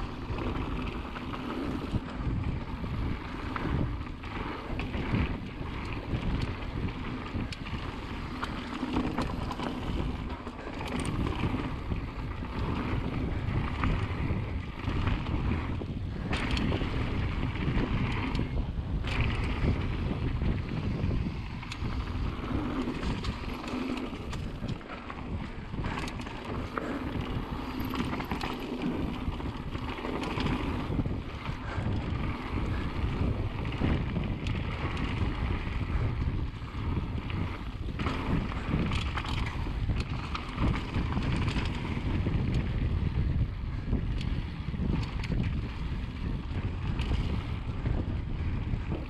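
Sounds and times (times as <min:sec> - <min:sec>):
tyres on dirt: 0:00.0 - 0:42.9
bike rattling and knocking: 0:00.0 - 0:49.0
wind rushing over microphone: 0:00.0 - 0:49.0.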